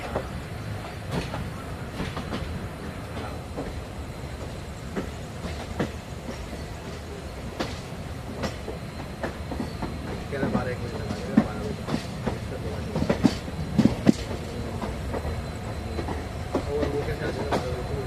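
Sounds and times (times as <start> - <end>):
rail joint clicks and knocks: 0.0 - 18.0
train wheels rumbling on rail: 0.0 - 18.0.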